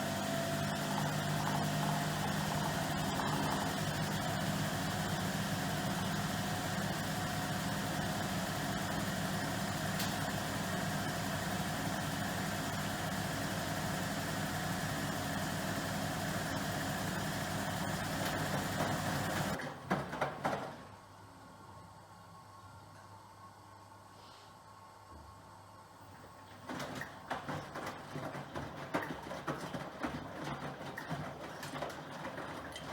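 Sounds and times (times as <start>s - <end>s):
washing machine hum: 0.0s - 21.1s, 26.0s - 32.9s.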